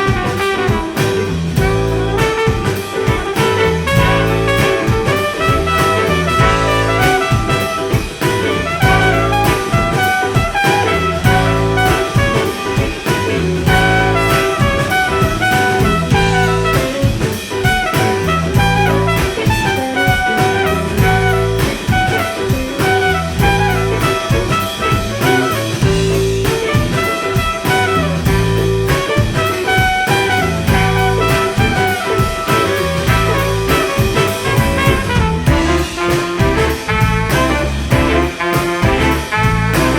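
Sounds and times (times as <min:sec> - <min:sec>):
live jazz-blues band: 0:00.0 - 0:39.9.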